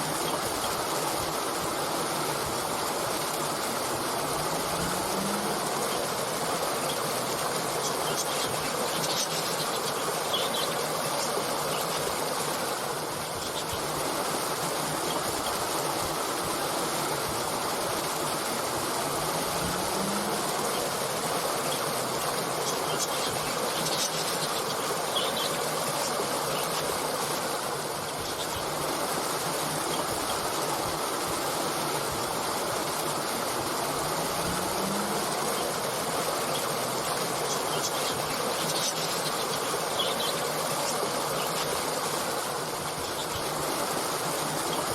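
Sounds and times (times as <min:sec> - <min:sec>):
stream flowing over stones: 0:00.0 - 0:44.9
small birds chirping: 0:02.3 - 0:44.9.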